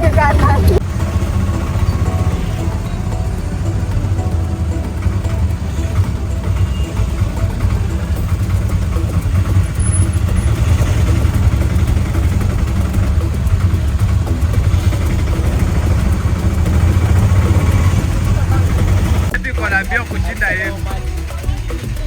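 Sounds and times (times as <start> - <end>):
auto-rickshaw engine running: 0.0 - 22.0.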